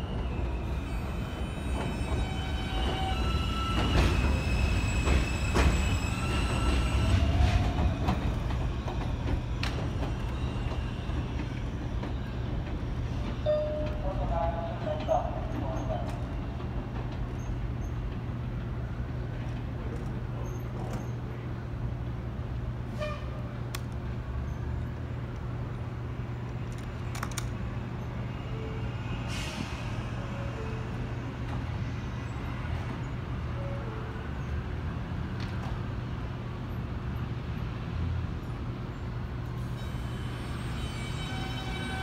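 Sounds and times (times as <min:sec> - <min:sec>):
subway train humming: 0:00.0 - 0:42.0.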